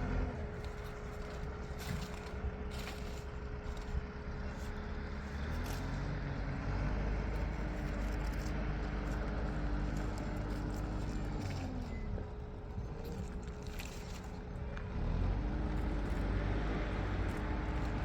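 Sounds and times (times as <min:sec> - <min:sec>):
tractor engine revving: 0:00.0 - 0:18.0.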